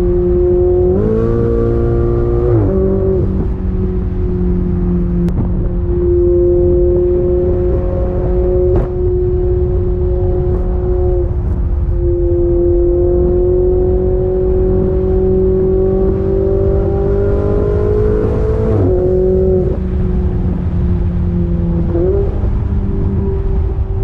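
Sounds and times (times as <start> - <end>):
sports car engine accelerating: 0.0 - 24.0.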